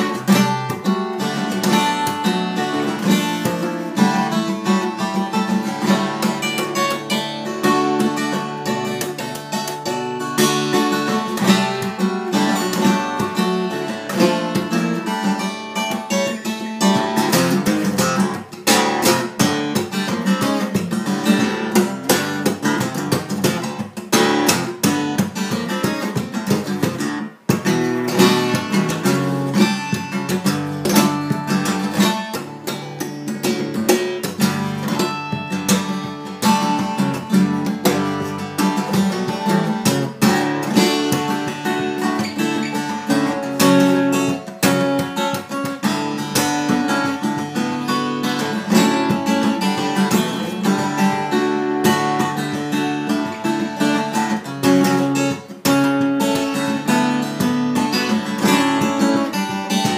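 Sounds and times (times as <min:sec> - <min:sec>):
percussive guitar strikes: 0:00.0 - 0:04.8, 0:05.8 - 0:59.9
fingerstyle acoustic guitar: 0:00.0 - 0:59.9.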